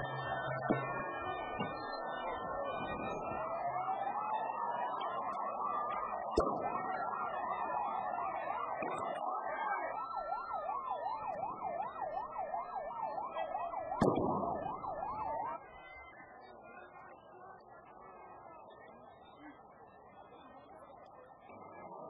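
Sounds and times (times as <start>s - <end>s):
fast siren yelp: 0.0s - 22.0s
police sirens wailing: 0.0s - 22.0s.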